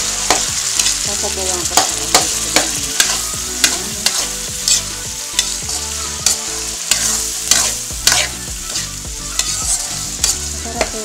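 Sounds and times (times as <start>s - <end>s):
hot oil sizzling: 0.0s - 11.0s
metal spatula scraping a wok: 0.0s - 11.0s.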